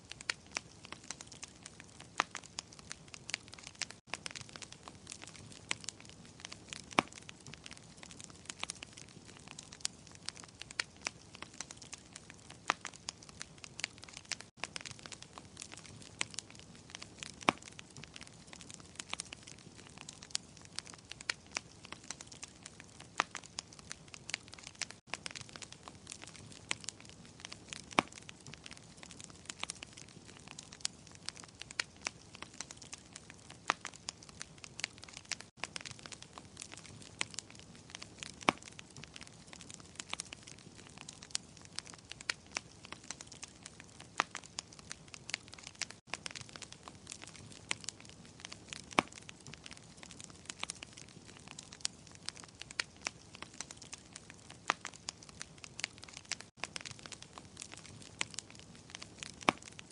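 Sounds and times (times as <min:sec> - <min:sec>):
wood fire crackling: 0:00.0 - 0:59.9
sharp pops of fire: 0:00.1 - 0:59.9.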